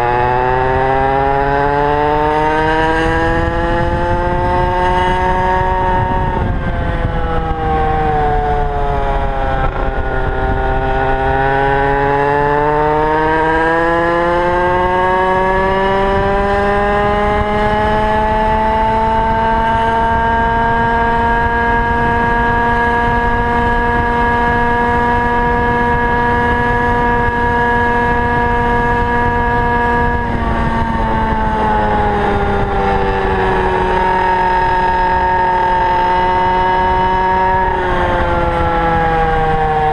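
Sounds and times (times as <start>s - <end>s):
small two-stroke scooter engine: 0.0s - 39.9s.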